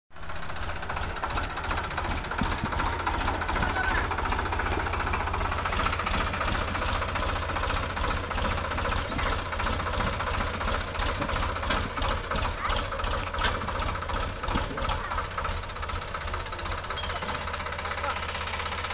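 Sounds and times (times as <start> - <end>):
tractor diesel engine running: 0.1 - 18.9.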